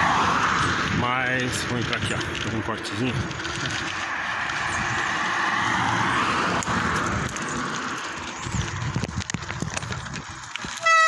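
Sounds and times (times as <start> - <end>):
bicycle tyres on gravel: 0.0 - 11.0
bike knocking and rattling: 0.0 - 11.0.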